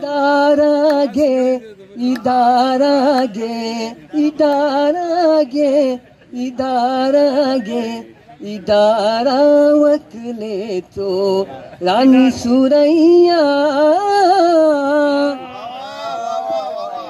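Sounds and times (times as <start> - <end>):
man singing into a microphone: 0.0 - 15.4.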